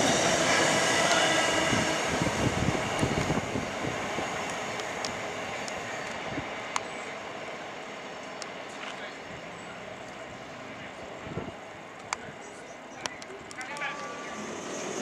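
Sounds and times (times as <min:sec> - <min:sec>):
train wheels rumbling on rails: 0:00.0 - 0:12.4, 0:13.0 - 0:15.0.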